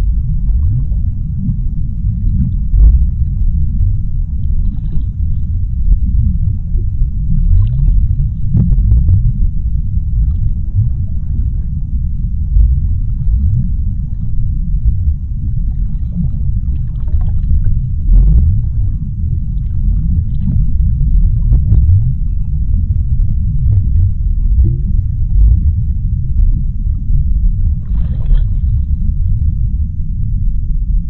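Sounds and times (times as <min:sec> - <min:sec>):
faint clicks and crackles: 0:00.0 - 0:31.0
underwater deep rumble: 0:00.0 - 0:31.0.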